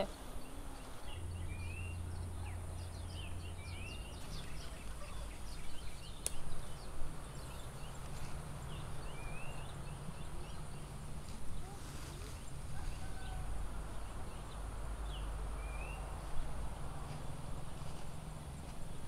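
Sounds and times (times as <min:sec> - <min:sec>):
small birds chirping: 0:00.0 - 0:19.0
steady low background noise: 0:00.0 - 0:19.0.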